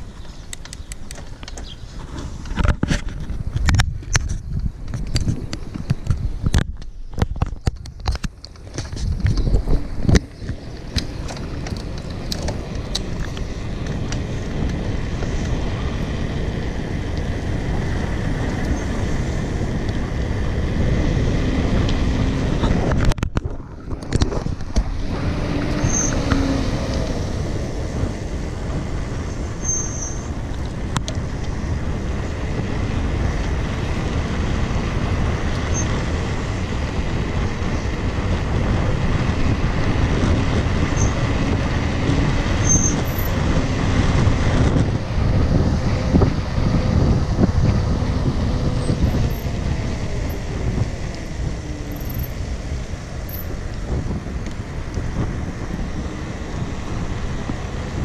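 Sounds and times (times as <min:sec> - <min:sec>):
bike tyres rolling on asphalt: 0:00.0 - 0:58.0
wind rushing over microphone: 0:00.0 - 0:58.0.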